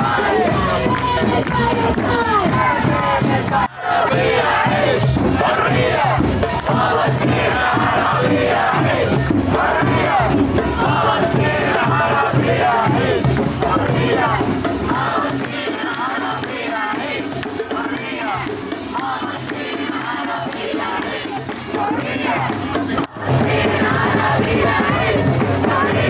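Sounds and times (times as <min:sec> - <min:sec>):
crowd chanting and singing: 0:00.0 - 0:26.0
shaken rattle or tambourine: 0:00.0 - 0:26.0.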